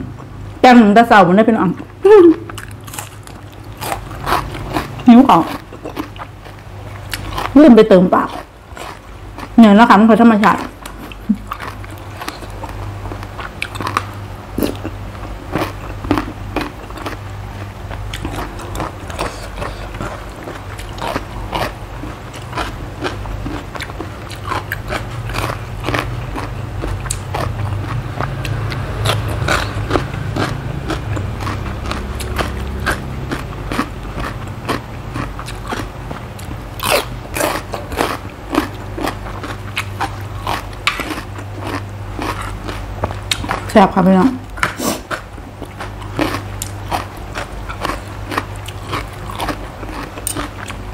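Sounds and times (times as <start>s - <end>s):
steady low hum: 0.0s - 50.9s
chewing and crunching: 1.7s - 50.9s.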